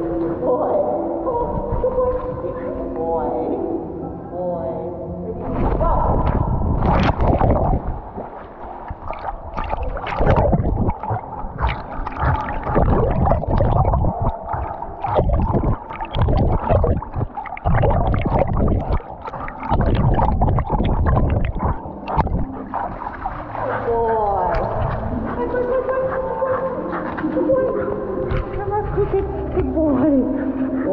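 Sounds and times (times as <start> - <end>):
water splashing and gurgling: 5.4 - 30.9.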